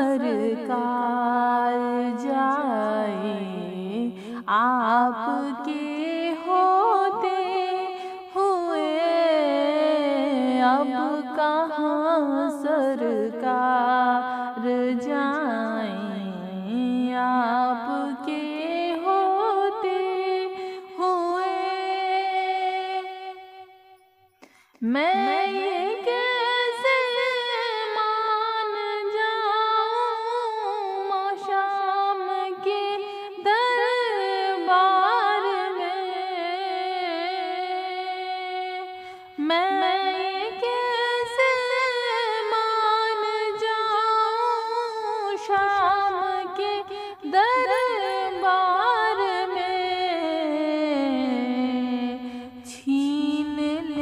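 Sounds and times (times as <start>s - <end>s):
woman singing unaccompanied: 0.0s - 23.7s, 24.8s - 54.0s.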